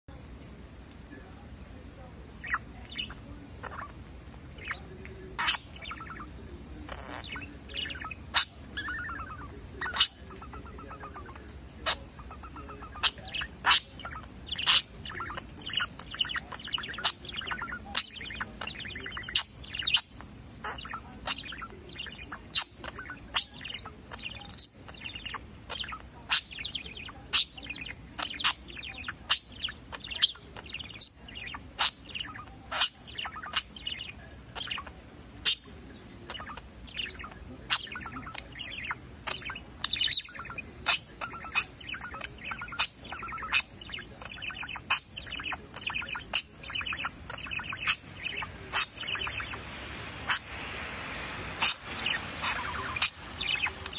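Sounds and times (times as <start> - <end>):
budgerigar warbling: 4.6 - 49.7, 51.6 - 53.9.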